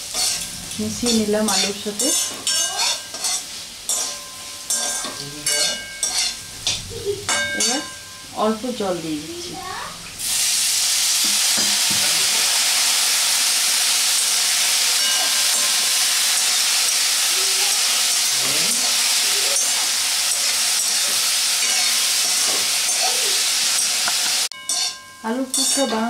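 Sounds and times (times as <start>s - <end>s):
water sizzling in hot pan: 0.0s - 26.0s.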